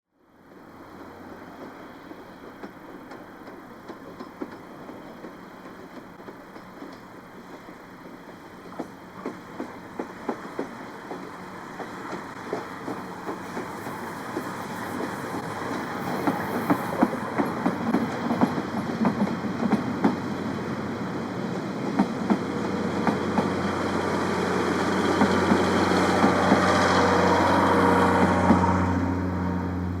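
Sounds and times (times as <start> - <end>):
train wheels clicking over rail joints: 1.0 - 20.4, 21.5 - 29.0.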